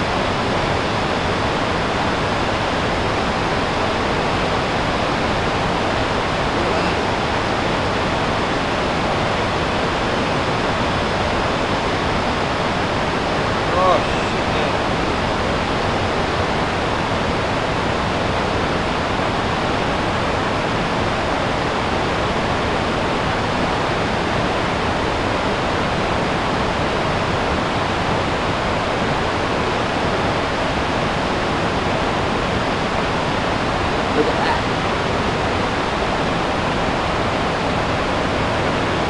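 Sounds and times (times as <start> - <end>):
river rapids rushing over rock: 0.0 - 39.0.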